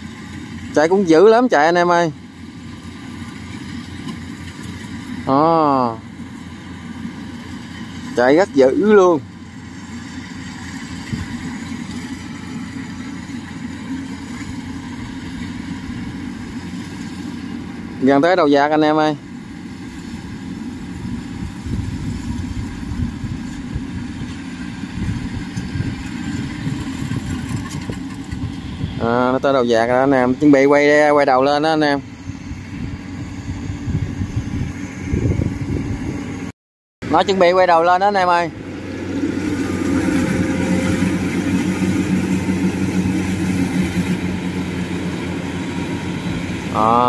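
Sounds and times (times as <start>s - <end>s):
combine harvester engine drone: 0.0s - 47.0s.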